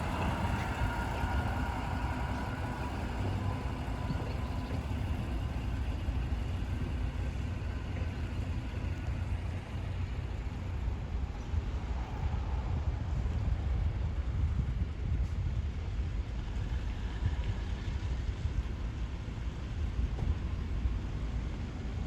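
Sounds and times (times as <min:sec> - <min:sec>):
bus diesel engine rumble: 0:00.0 - 0:22.0.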